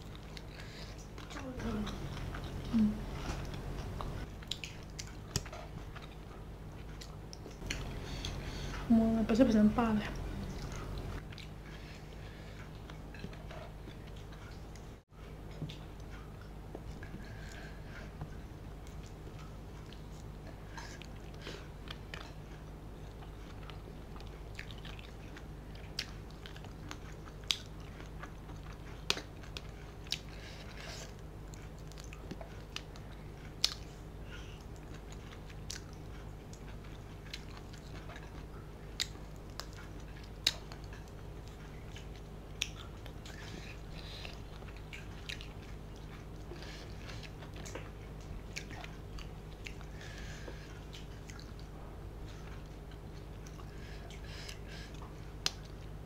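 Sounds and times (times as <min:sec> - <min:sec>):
person chewing food: 0:00.0 - 0:56.0
steady low hum: 0:00.0 - 0:56.0.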